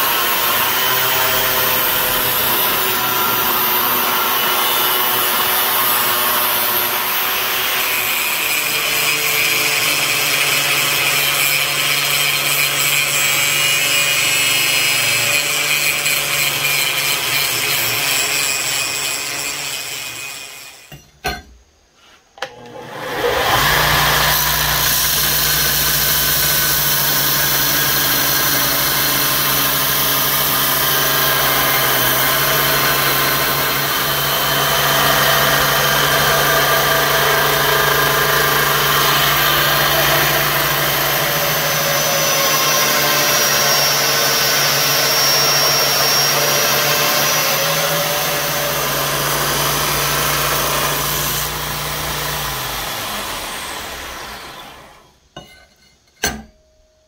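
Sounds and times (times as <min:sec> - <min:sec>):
belt grinder running: 0:00.0 - 0:20.9, 0:22.7 - 0:55.1
belt grinder winding down: 0:00.0 - 0:20.9, 0:22.5 - 0:55.2
steel grinding on abrasive belt: 0:00.0 - 0:21.0, 0:22.5 - 0:56.0.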